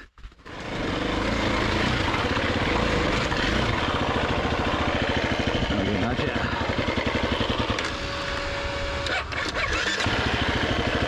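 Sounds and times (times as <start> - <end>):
dirt bike engine running: 0.2 - 11.0.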